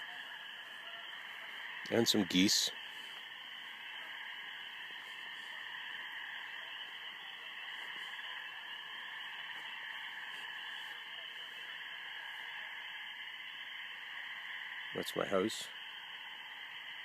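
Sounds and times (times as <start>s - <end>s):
frog chorus peeping: 0.0s - 17.0s.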